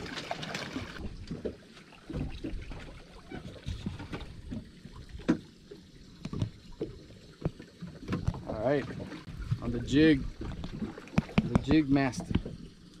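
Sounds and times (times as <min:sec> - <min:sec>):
water sloshing against boat hull: 0:00.0 - 0:13.0.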